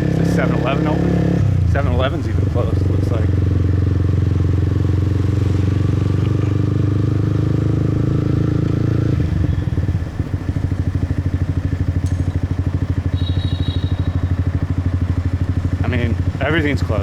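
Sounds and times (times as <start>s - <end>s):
motorbike engine: 0.0s - 17.0s.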